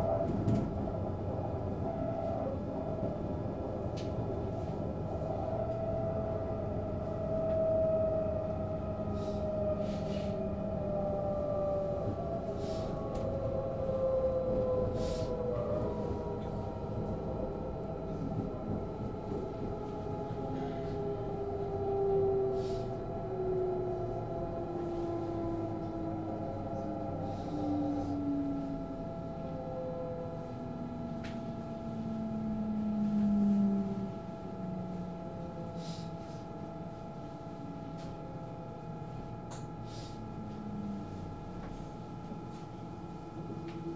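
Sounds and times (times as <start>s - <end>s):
train ride rumble: 0.0s - 43.9s
train whine: 0.0s - 43.9s.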